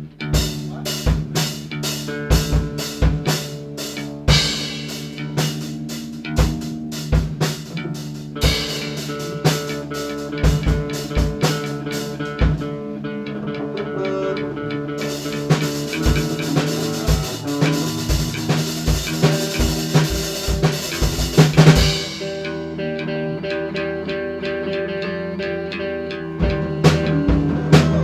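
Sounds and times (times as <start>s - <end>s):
electric guitars: 0.0s - 28.0s.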